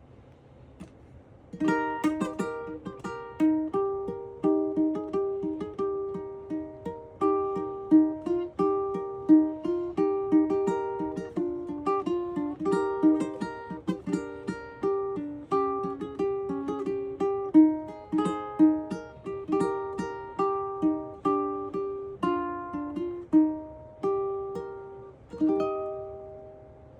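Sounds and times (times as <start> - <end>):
plucked ukulele melody: 1.5 - 26.9.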